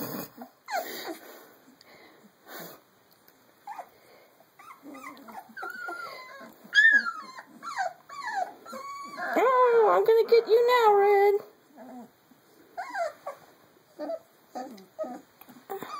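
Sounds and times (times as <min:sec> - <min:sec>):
puppies snuffling and breathing: 0:00.0 - 0:15.9
puppies whining and yelping: 0:00.1 - 0:01.8, 0:03.6 - 0:10.9, 0:11.6 - 0:15.9.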